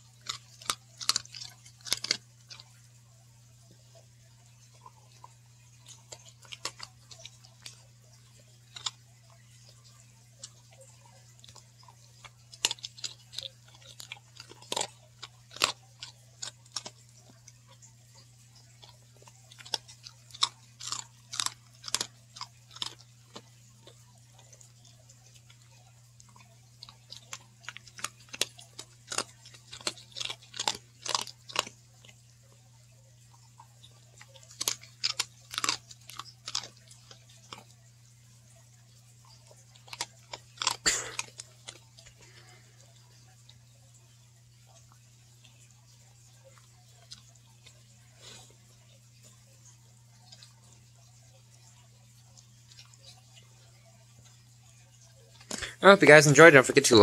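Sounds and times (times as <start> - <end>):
dog crunching a biscuit: 0.0 - 57.0
faint low hum: 0.0 - 57.0.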